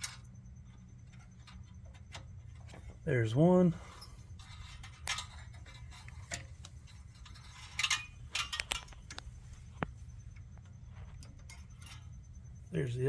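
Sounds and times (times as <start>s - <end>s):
light clicks and metal clinks: 0.0s - 13.0s.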